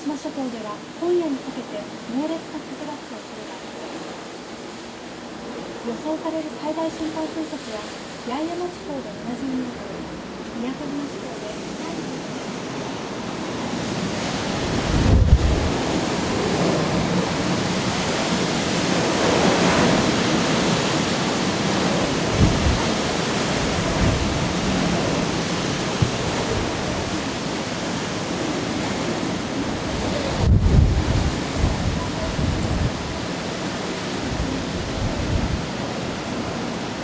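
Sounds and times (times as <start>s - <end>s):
gusts buffeting microphone: 0.0s - 37.0s
wind and driving rain: 0.0s - 37.0s.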